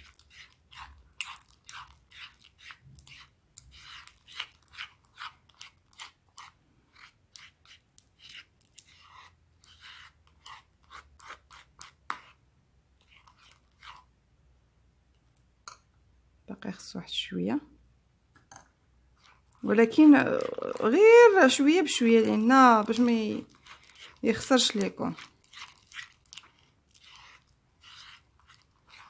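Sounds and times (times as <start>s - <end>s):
slime squelching: 0.0s - 14.2s, 19.0s - 29.0s.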